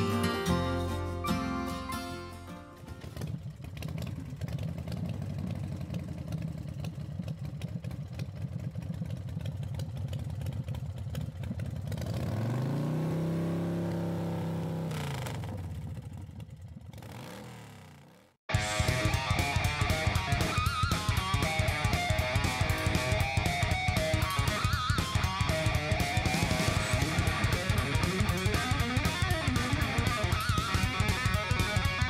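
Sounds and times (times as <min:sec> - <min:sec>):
engine running and revving: 0:02.8 - 0:32.0.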